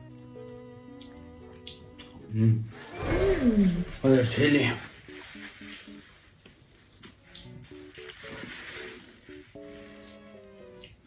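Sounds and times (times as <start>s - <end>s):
soft melodic background music: 0.0s - 11.0s.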